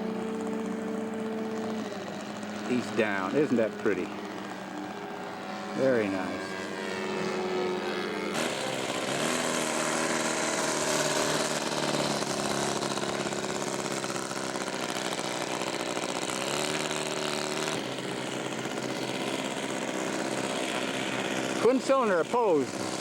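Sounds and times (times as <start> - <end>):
model plane engine at low throttle: 0.0 - 23.0.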